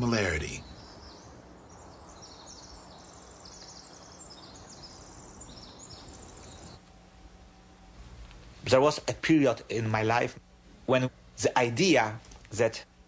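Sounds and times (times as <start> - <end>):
small birds chirping trills: 0.0 - 11.4.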